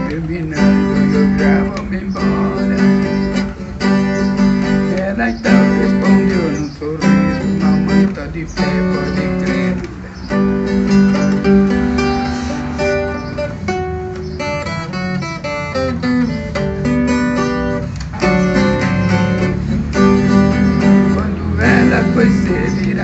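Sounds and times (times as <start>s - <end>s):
ten-string guitar playing: 0.0s - 23.0s.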